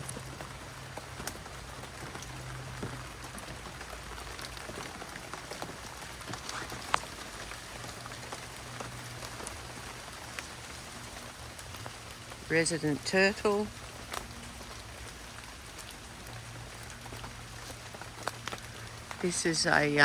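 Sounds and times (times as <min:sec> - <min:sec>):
rain falling on foliage: 0:00.0 - 0:20.0
water drips: 0:00.0 - 0:20.0.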